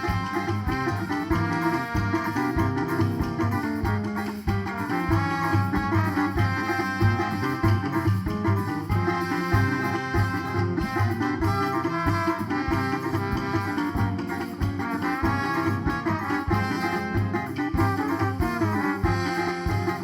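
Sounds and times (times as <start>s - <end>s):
band playing instrumental melody: 0.0s - 20.0s
low drum beat: 0.0s - 20.0s.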